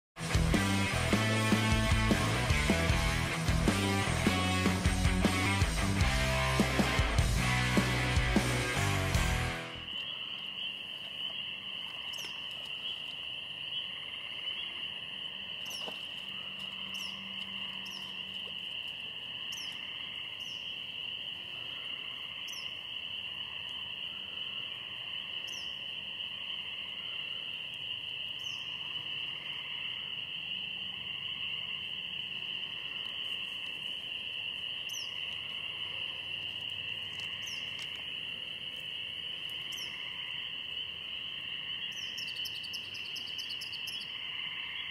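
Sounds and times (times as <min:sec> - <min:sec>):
low frog chorus: 0:08.0 - 0:44.9.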